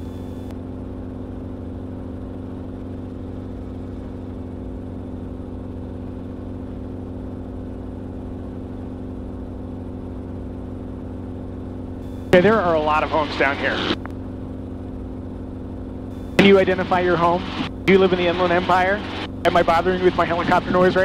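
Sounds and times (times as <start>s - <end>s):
helicopter engine and rotor drone: 0.0s - 21.0s.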